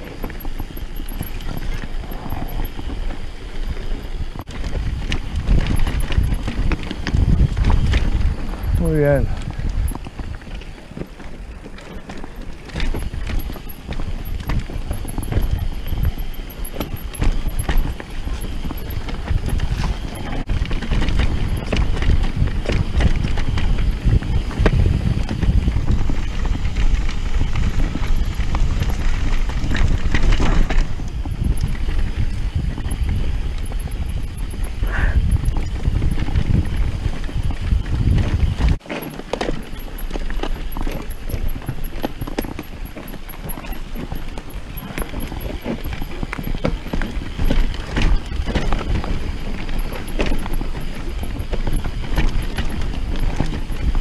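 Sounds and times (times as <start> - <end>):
mountain bike clattering: 0.0 - 54.0
wind and tyre rumble: 0.0 - 54.0.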